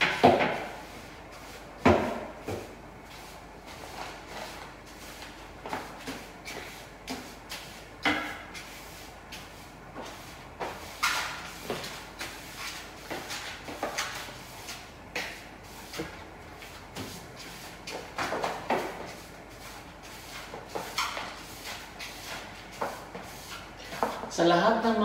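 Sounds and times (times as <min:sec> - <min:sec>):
broom knocks and scrapes: 0:00.0 - 0:24.3.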